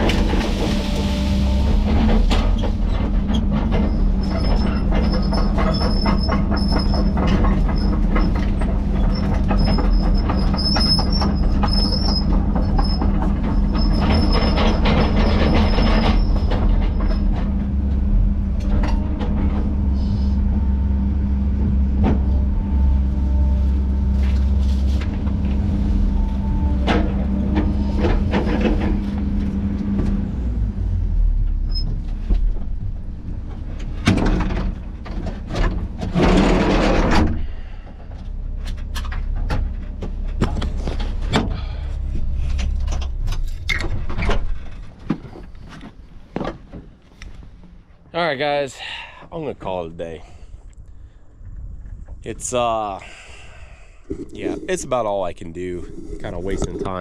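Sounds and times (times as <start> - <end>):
diesel engine running: 0.0 - 46.4
steel tracks clanking and squealing: 0.0 - 46.9.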